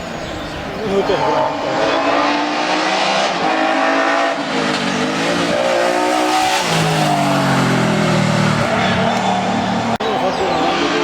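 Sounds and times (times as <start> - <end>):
race car engine accelerating: 0.9 - 11.0.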